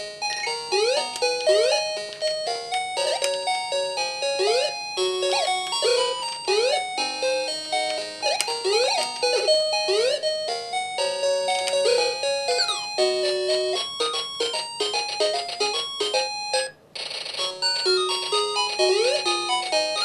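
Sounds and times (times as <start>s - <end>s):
beeping chiptune melody: 0.0s - 16.7s, 17.4s - 20.0s.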